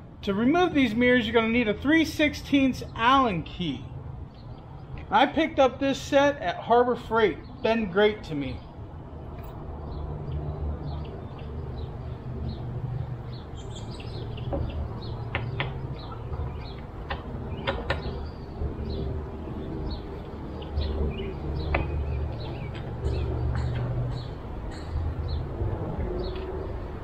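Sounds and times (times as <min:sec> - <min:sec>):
birds chirping: 0:01.0 - 0:27.0.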